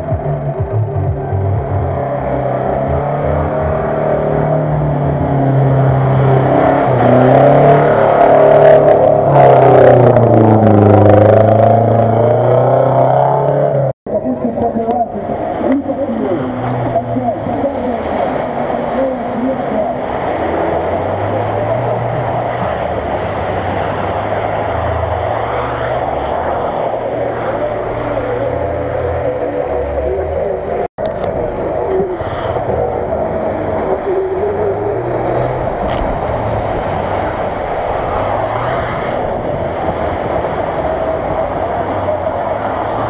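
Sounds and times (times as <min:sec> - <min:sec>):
off-road engines running: 0:00.0 - 0:43.0.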